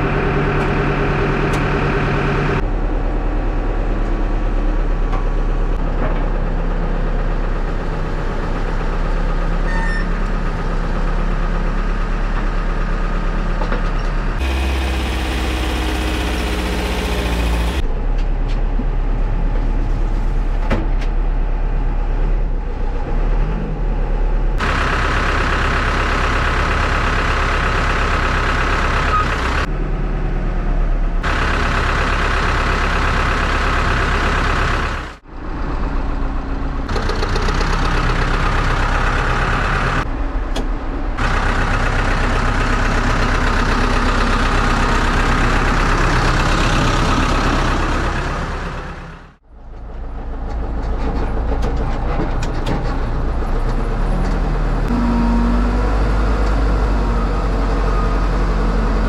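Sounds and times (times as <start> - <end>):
backhoe diesel engine working: 0.0 - 59.0.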